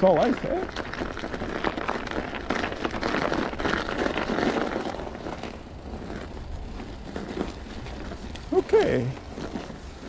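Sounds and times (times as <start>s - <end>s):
bike tyres rolling on snow and ice: 0.0s - 10.0s.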